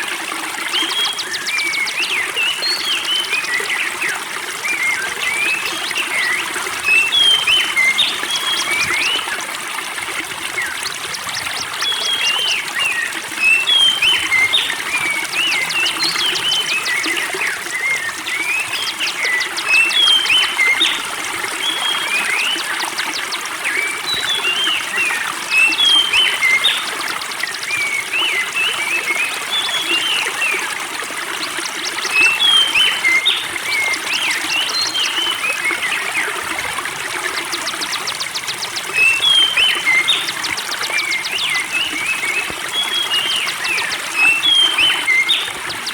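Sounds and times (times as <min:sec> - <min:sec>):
stream trickling: 0:00.0 - 0:45.9
songbird singing: 0:00.7 - 0:09.4, 0:10.0 - 0:30.7, 0:31.4 - 0:45.9.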